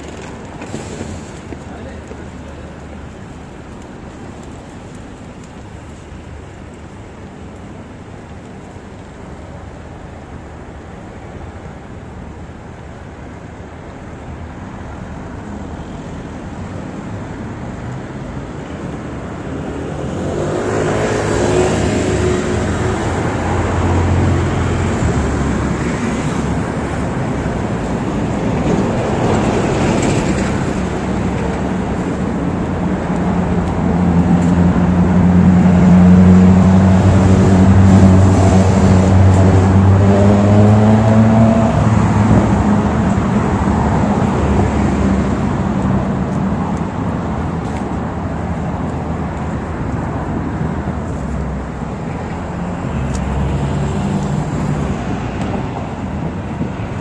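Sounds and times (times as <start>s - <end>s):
road traffic passing: 0.0s - 57.0s
vehicle engine humming: 0.0s - 57.0s.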